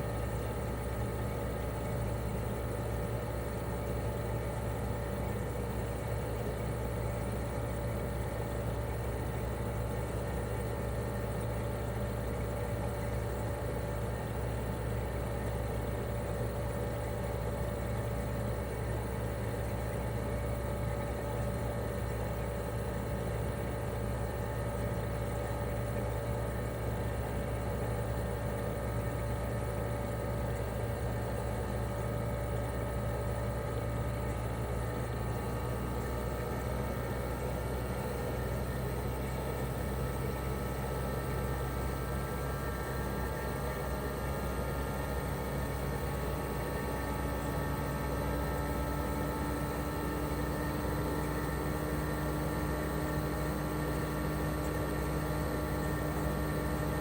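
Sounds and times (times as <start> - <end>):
air conditioner compressor hum: 0.0 - 57.0.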